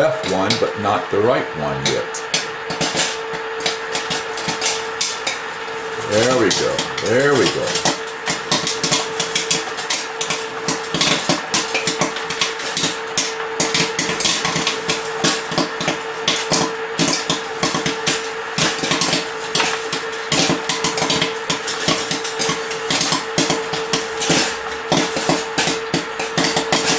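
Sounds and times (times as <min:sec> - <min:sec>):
machine humming: 0:00.0 - 0:26.9
popcorn popping: 0:00.0 - 0:26.9.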